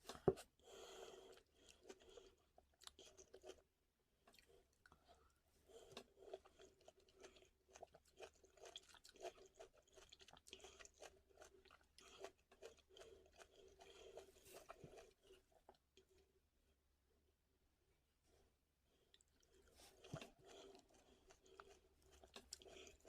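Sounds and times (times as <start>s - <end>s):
chewing crunchy food: 0.1s - 16.3s, 19.1s - 23.0s.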